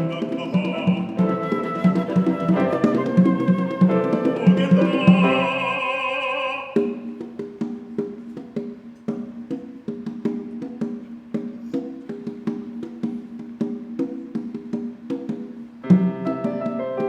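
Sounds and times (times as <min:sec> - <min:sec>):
congas hand drumming: 0:00.0 - 0:17.0.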